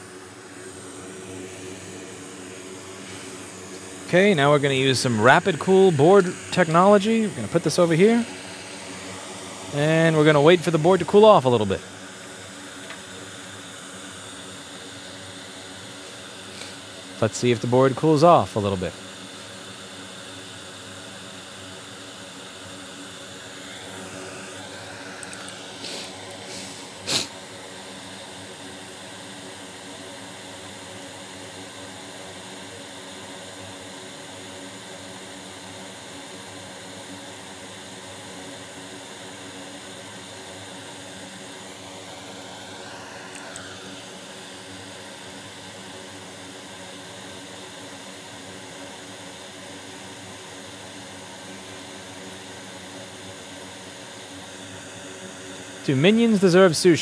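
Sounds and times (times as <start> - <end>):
fan whirring: 0.0 - 57.0.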